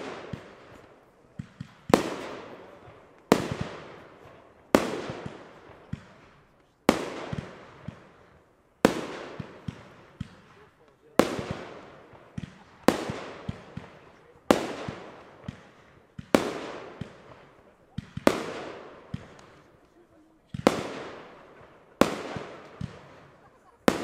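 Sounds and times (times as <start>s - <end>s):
firework shells bursting with echo: 0.0s - 24.0s
small firework pops: 0.0s - 24.0s.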